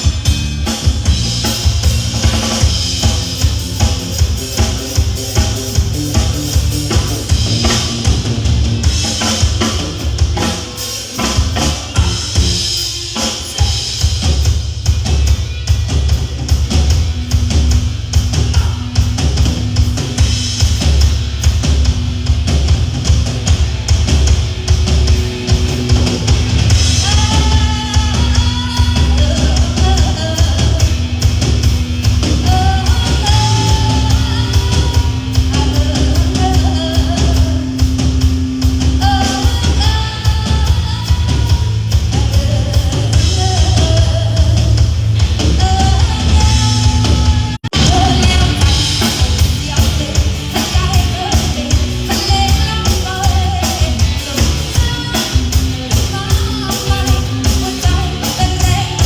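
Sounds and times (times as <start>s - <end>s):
drum kit and bass: 0.0s - 59.0s.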